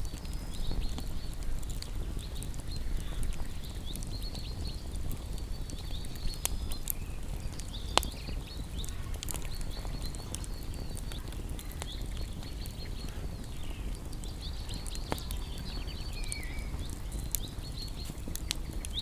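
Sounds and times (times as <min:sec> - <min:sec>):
small birds chirping: 0:00.0 - 0:19.0
wood fire crackling: 0:00.0 - 0:19.0.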